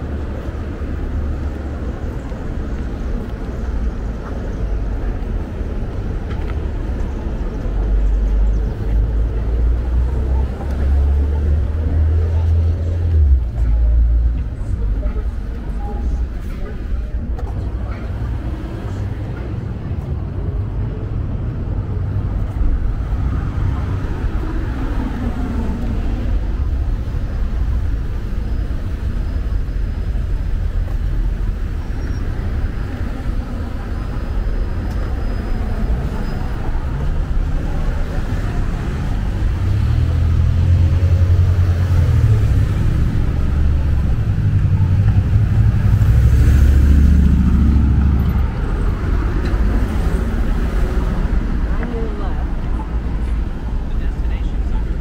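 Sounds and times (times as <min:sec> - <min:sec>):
faint voices of passers-by: 0:00.0 - 0:55.0
road traffic: 0:00.0 - 0:55.0.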